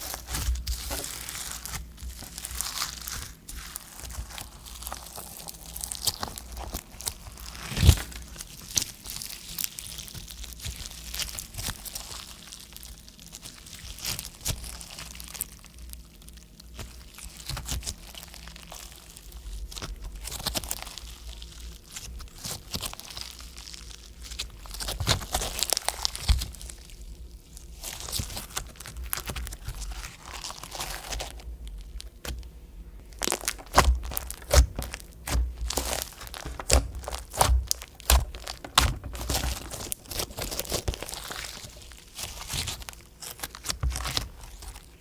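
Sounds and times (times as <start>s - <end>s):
slime clicking and crackling: 0.0s - 45.0s.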